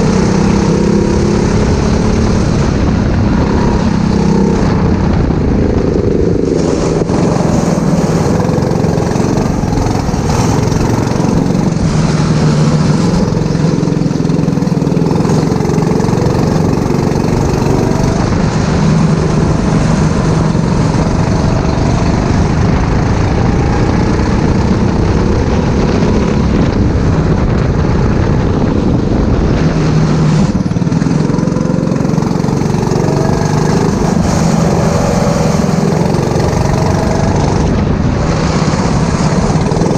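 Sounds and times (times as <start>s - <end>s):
racing kart engine revving: 0.0s - 27.6s, 28.4s - 39.9s.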